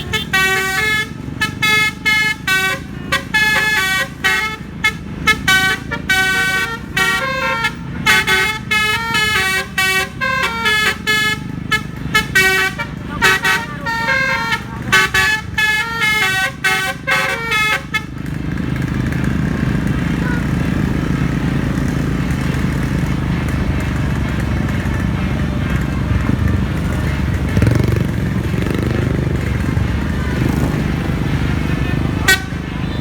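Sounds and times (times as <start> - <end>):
musical air horn tune: 0.0 - 18.2, 23.8 - 33.0
engine and road noise: 0.0 - 33.0.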